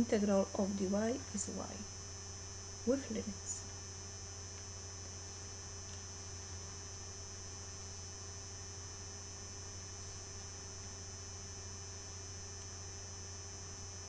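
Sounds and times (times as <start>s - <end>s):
low electrical hum with hiss: 0.0s - 14.0s.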